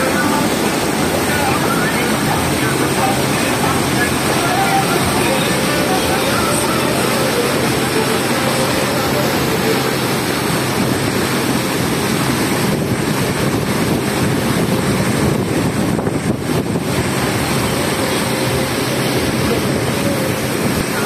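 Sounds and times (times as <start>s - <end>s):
boat engine running: 0.0s - 21.0s
water churning: 0.0s - 21.0s
wind buffeting microphone: 0.4s - 21.0s.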